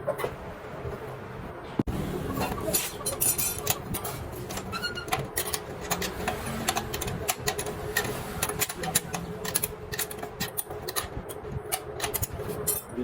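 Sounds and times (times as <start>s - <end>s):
metal tools clinking and knocking: 2.4s - 13.0s.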